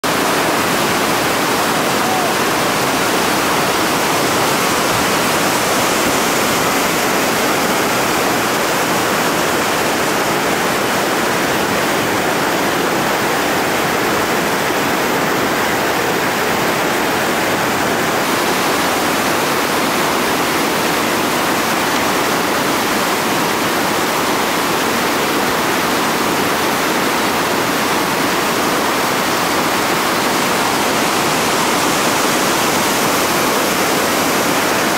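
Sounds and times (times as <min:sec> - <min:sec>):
whitewater rapids roaring: 0:00.0 - 0:34.9.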